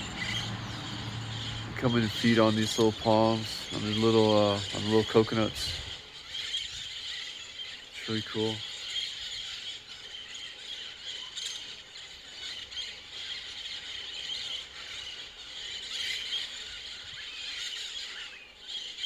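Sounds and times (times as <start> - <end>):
parrots squawking and screeching: 0.0 - 19.0.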